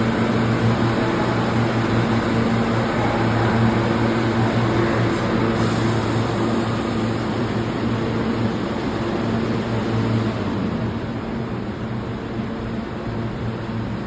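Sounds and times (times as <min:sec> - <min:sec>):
subway train electrical hum: 0:00.0 - 0:14.0
train rumble: 0:00.0 - 0:14.0.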